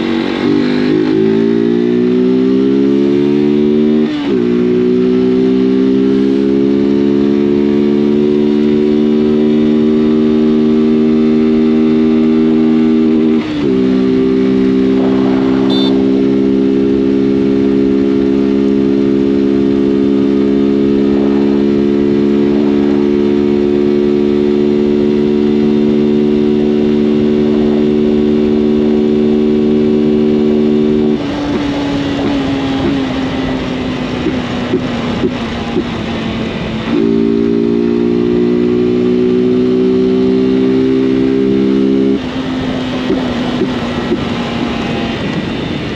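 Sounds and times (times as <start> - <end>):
motorcycle engine at high revs: 0.0 - 45.9.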